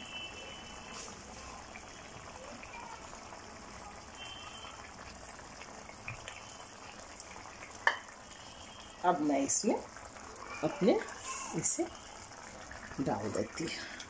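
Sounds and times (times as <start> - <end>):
curry simmering with bubbling hiss: 0.0 - 14.0.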